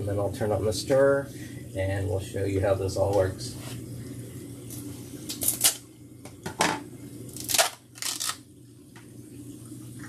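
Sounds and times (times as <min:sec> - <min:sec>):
aquarium equipment humming: 0:00.0 - 0:10.0.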